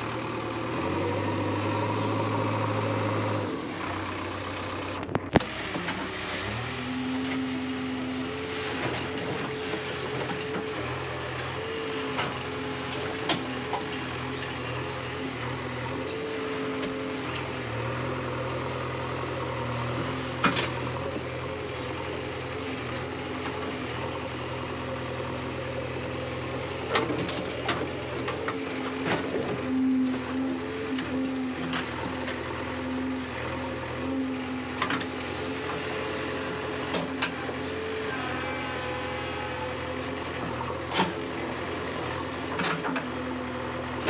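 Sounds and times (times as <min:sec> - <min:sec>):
diesel engine running under load: 0:00.0 - 0:44.0.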